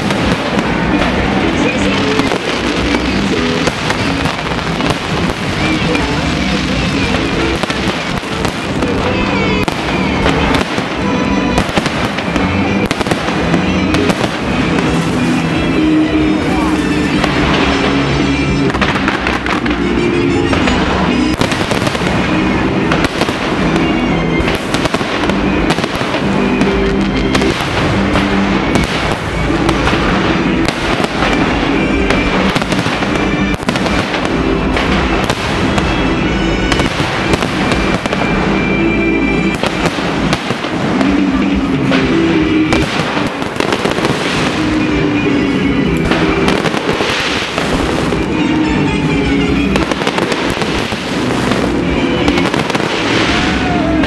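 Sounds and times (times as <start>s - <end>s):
fireworks bangs: 0.0s - 54.0s
loud music with held notes: 0.0s - 54.0s.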